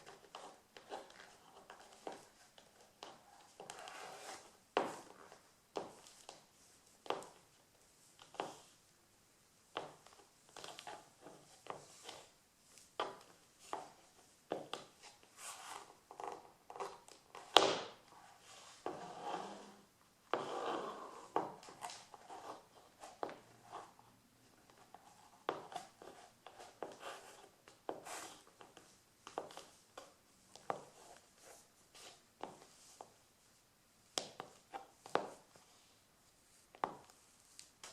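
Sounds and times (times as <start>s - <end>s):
shoe scuffing on floor: 0.0s - 8.8s, 9.8s - 24.0s, 24.6s - 33.2s, 34.1s - 37.9s.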